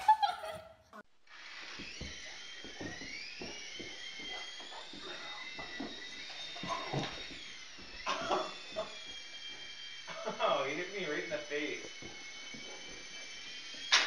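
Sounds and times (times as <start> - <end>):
toy drone rotors whining: 1.3 - 14.0.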